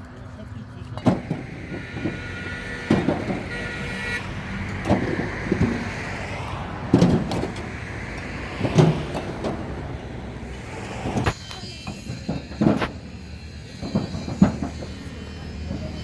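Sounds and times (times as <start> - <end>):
traffic noise: 0.0 - 16.0
bricks clacking together: 1.0 - 13.0, 13.8 - 14.9.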